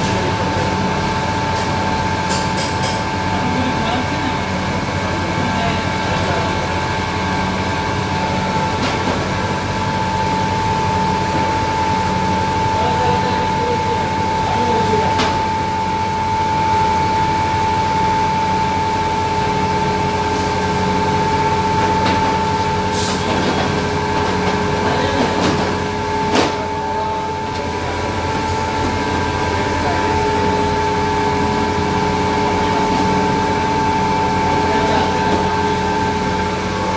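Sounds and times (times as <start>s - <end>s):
fryer and extruder machine running: 0.0s - 36.9s
high machine whine: 0.0s - 36.9s.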